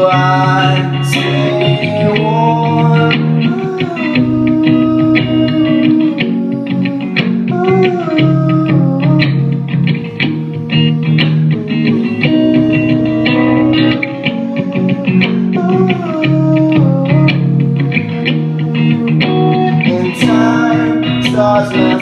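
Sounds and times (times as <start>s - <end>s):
live rock band playing: 0.0s - 22.0s
sliding electric guitar line: 0.0s - 22.0s.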